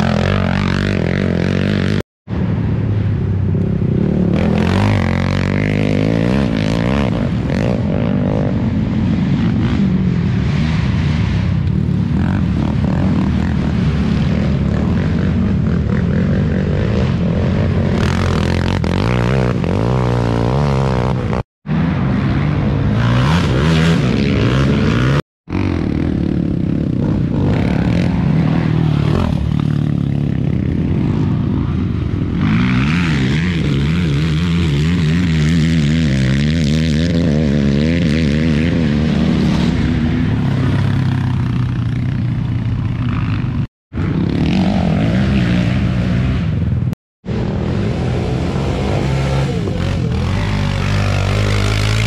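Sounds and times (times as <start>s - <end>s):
quad engines revving: 3.9s - 21.4s, 22.1s - 52.0s.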